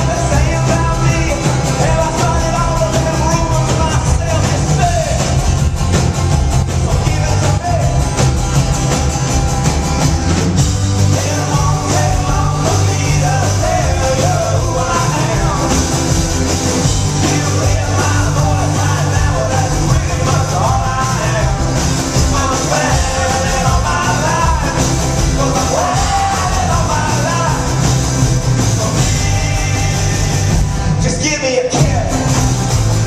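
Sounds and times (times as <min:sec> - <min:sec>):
person singing: 0:00.0 - 0:05.4, 0:06.8 - 0:08.0, 0:11.0 - 0:16.2, 0:17.0 - 0:27.9, 0:28.6 - 0:32.4
acoustic guitar: 0:00.0 - 0:33.0
drums: 0:00.0 - 0:33.0
electric bass: 0:00.0 - 0:33.0.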